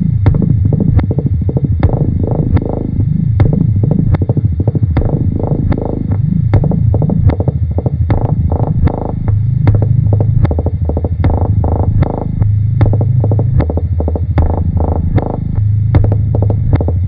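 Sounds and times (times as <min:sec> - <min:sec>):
low throbbing electronic hum: 0:00.0 - 0:17.0.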